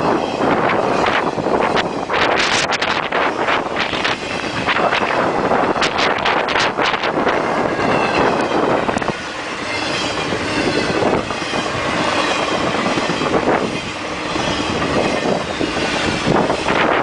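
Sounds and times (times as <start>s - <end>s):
freight train rumbling and rattling: 0.0s - 17.0s.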